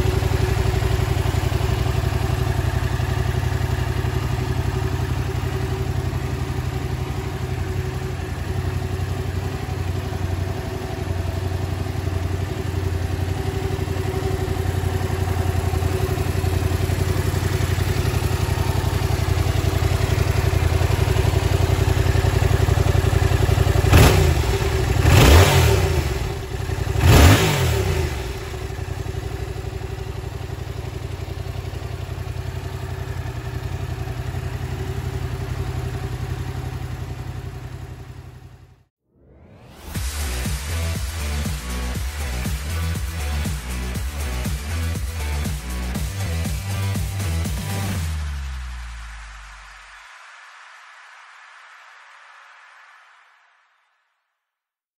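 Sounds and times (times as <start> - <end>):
motorcycle engine idling and revving: 0.0 - 38.9, 39.6 - 49.6.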